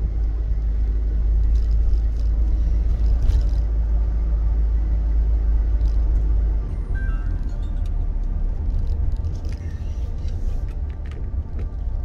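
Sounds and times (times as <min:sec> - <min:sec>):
van engine rumble in cab: 0:00.0 - 0:12.0.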